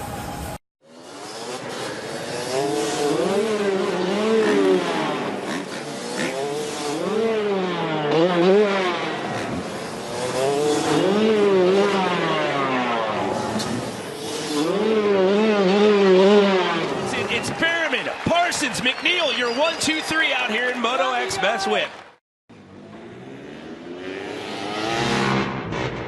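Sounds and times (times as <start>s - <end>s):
motorcycle engines revving: 0.8s - 21.3s, 22.5s - 26.0s.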